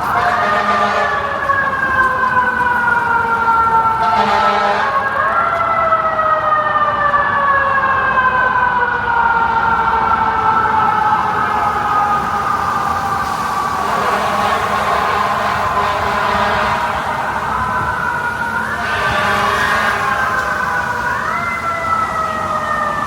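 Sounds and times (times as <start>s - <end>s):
emergency vehicle siren wailing: 0.0s - 23.0s.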